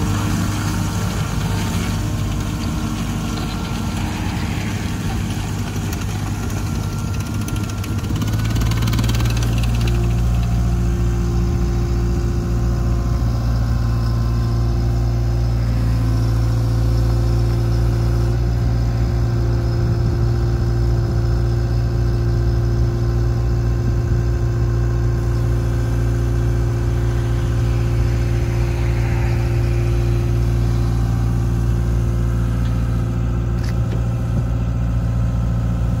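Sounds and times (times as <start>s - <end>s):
diesel engine revving: 0.0s - 21.9s, 24.8s - 36.0s
steady whine: 0.0s - 36.0s.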